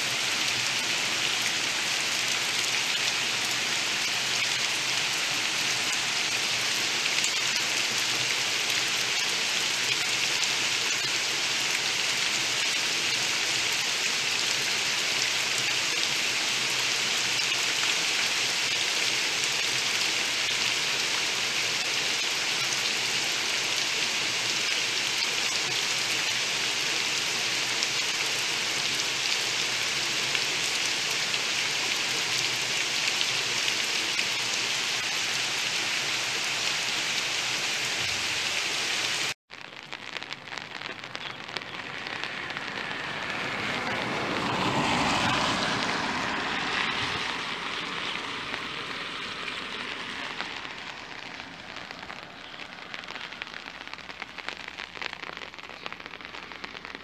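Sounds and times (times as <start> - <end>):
heavy rain on trees: 0.0 - 57.0.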